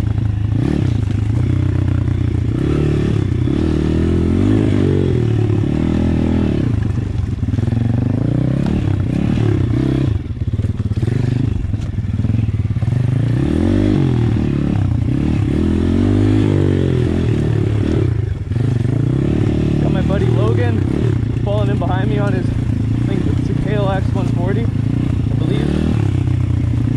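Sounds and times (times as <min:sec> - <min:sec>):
bike rattling over rough ground: 0:00.0 - 0:26.9
pit bike engine revving: 0:00.0 - 0:26.9.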